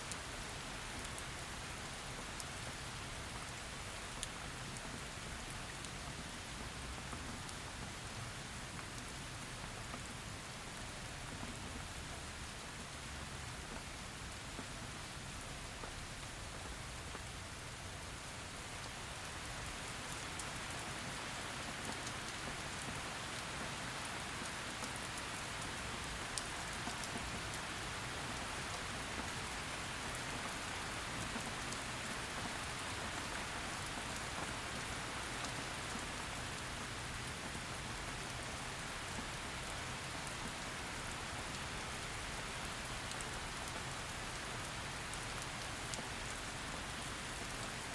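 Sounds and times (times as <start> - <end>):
heavy rain on hard surface: 0.0 - 47.9.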